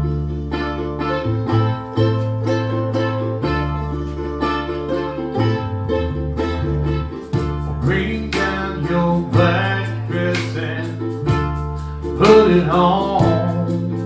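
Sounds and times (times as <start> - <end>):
acoustic string instruments: 0.0 - 14.0
low bass notes: 0.0 - 14.0.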